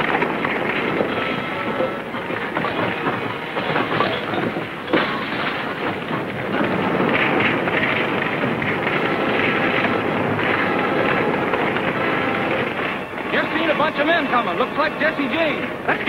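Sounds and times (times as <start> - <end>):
fire crackling: 0.0 - 16.0
sharp wood cracks: 0.0 - 16.0.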